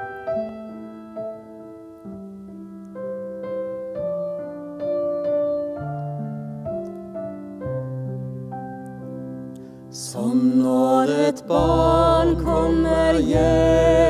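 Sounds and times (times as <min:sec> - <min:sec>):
grand piano playing slow hymn: 0:00.0 - 0:14.0.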